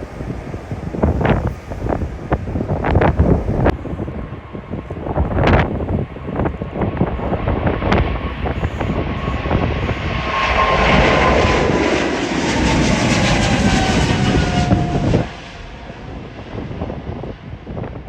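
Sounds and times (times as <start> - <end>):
gusty wind on microphone: 0.0 - 18.0
jet engine roar: 0.0 - 18.0
jet engine whine: 0.0 - 18.0.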